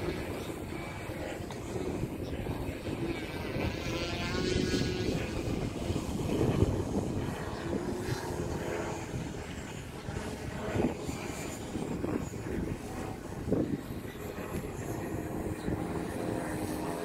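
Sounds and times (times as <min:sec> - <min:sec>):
model plane electric motor and propeller: 0:00.0 - 0:17.0.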